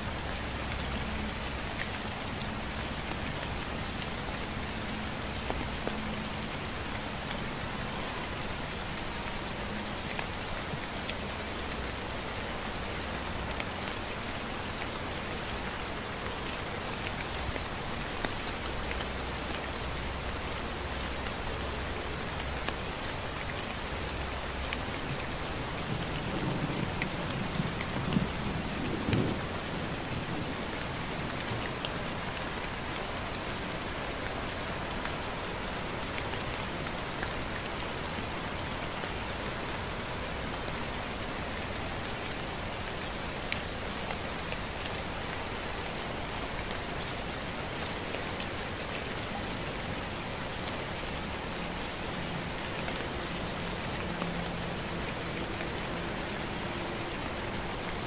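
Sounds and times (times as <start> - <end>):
gentle rain hiss: 0.0 - 58.0.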